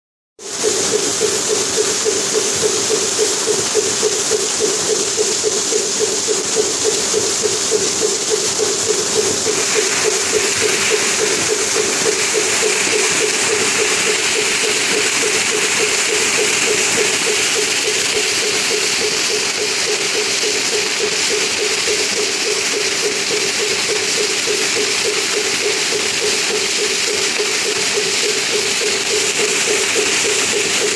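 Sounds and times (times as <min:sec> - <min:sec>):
low rapid pulsing: 0:00.4 - 0:30.9
waterfall rushing over rocks: 0:00.4 - 0:30.9.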